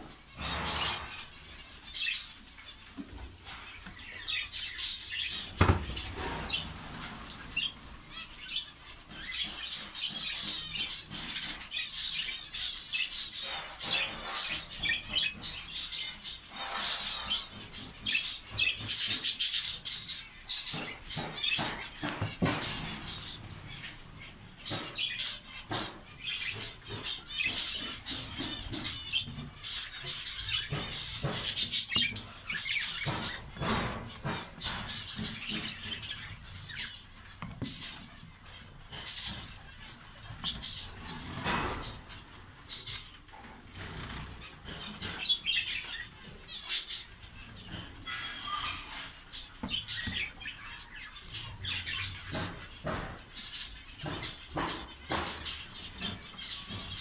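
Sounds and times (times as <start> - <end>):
finches chirping: 0.0 - 43.1, 44.0 - 57.0.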